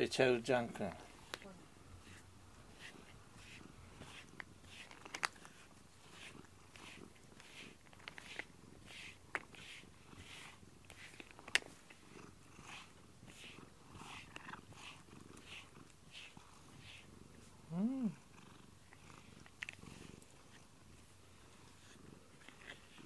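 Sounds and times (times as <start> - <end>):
cat purring: 0.2 - 23.0.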